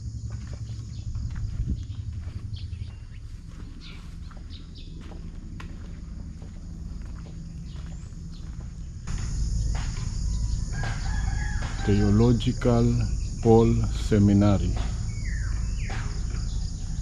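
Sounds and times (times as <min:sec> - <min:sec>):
wind rumble on microphone: 0:00.0 - 0:14.0
insects buzzing: 0:00.0 - 0:17.0.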